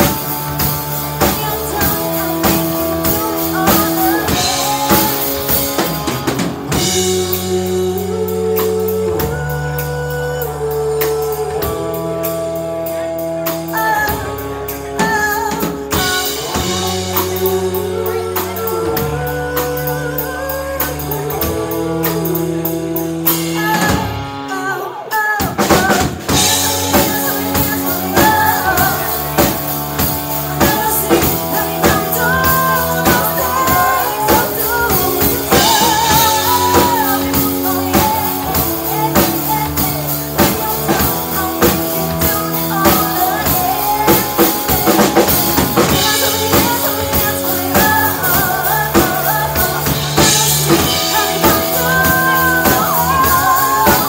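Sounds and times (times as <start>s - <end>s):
women singing: 0.0s - 6.1s, 6.7s - 12.2s, 13.7s - 22.6s, 23.4s - 54.0s
bass guitar: 0.0s - 54.0s
drum kit: 0.0s - 54.0s
electric guitar: 0.0s - 54.0s.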